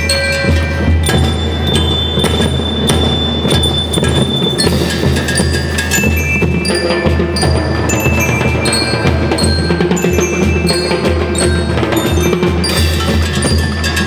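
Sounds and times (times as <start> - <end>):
bass drum: 0.0 - 14.0
bell lyres melody: 0.0 - 14.0
snare drums: 0.0 - 14.0.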